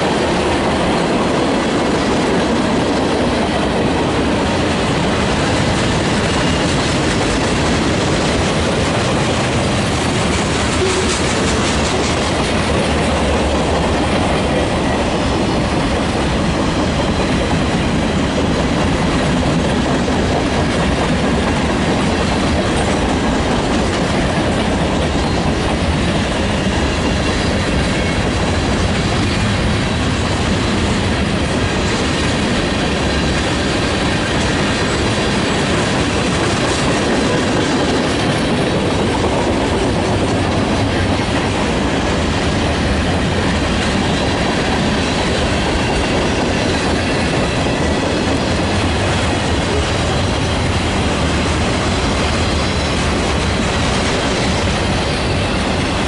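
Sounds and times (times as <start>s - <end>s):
clickety-clack over rail joints: 0.0s - 56.0s
train wheels on rails: 0.0s - 56.0s.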